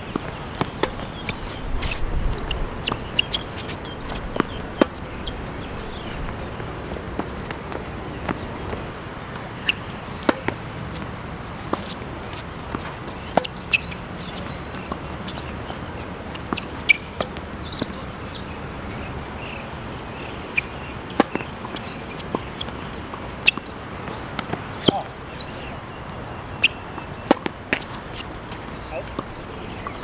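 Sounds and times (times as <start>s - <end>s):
tennis balls struck by rackets: 0.1s - 18.3s, 20.5s - 25.2s, 26.6s - 30.0s.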